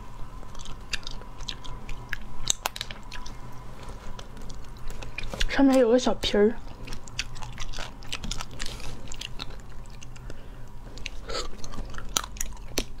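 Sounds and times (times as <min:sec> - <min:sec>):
person chewing and lip smacking: 0:00.4 - 0:05.5, 0:06.6 - 0:13.0.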